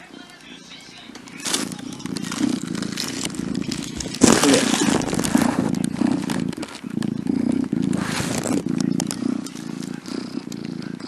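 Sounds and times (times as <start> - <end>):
crackly rustling: 0.0 - 11.0
kitten purring: 0.0 - 11.0.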